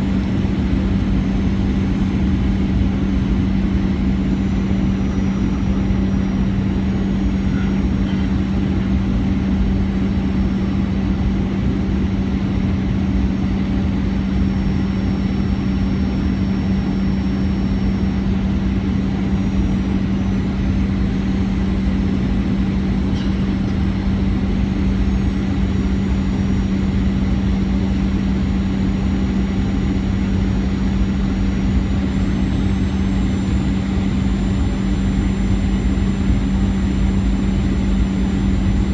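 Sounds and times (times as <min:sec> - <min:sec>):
engine drone: 0:00.0 - 0:38.9.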